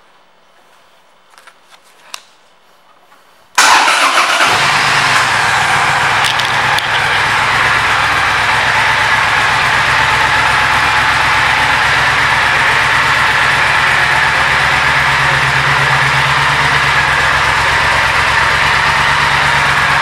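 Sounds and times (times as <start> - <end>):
motorcycle engine starting and idling: 3.6 - 20.0.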